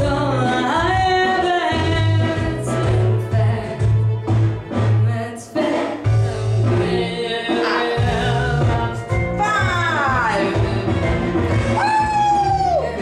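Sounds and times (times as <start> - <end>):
woman singing: 0.0 - 4.1, 5.0 - 13.0
pulsing bass accompaniment: 0.0 - 5.3, 6.0 - 13.0.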